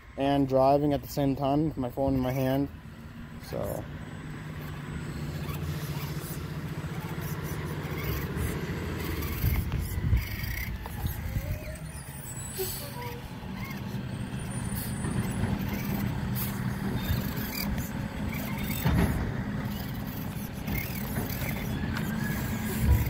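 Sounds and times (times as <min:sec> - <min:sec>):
distant diesel engine drone: 0:00.0 - 0:23.0.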